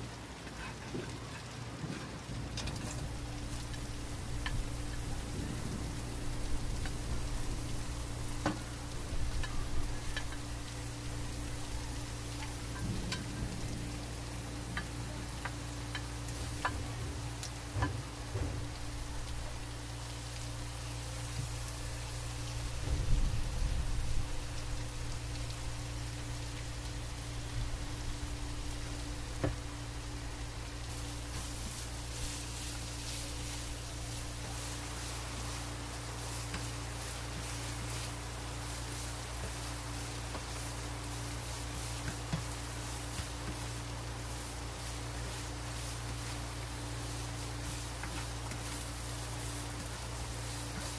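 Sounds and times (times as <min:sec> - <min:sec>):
vegetables sizzling in a wok: 0:00.0 - 0:50.9
low hum: 0:01.8 - 0:50.6.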